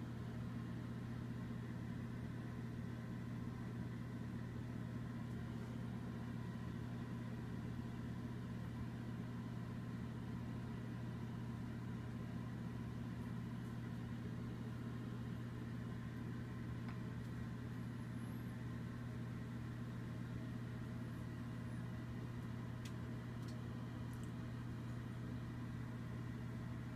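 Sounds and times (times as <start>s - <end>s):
steady hum: 0.0s - 26.9s.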